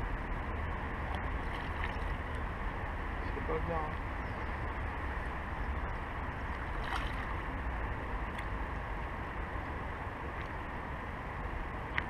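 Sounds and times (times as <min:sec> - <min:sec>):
steady outdoor hiss: 0:00.0 - 0:12.0
wind rumbling on microphone: 0:00.0 - 0:12.0.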